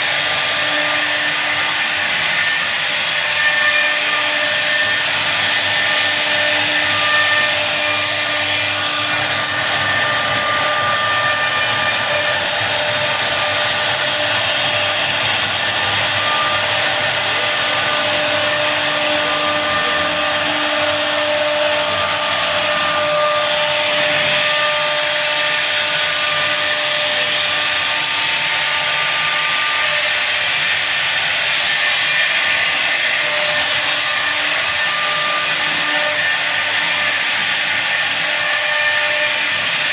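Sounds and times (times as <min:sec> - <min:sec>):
router spindle whine: 0:00.0 - 0:39.9
wood cutting hiss: 0:00.0 - 0:39.9.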